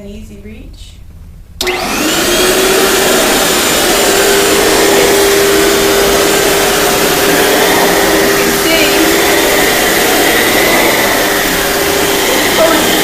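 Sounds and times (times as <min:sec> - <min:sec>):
vacuum cleaner motor whining: 0:01.6 - 0:13.0.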